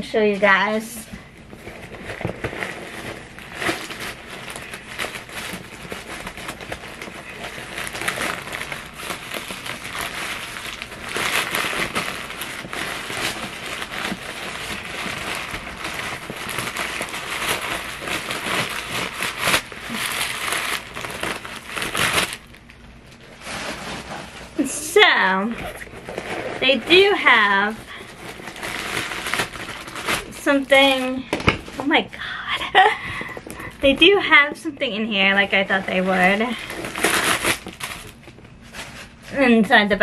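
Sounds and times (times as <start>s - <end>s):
packing paper crinkling: 0.4s - 39.5s.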